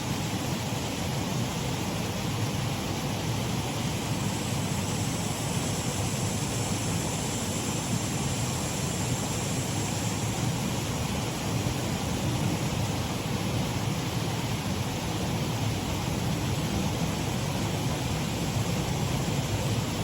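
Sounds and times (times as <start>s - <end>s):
water splashing over waterfall: 0.0s - 20.0s.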